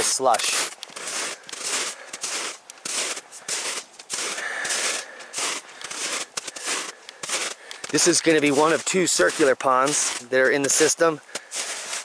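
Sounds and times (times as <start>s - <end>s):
footsteps in slushy snow: 0.0s - 12.0s.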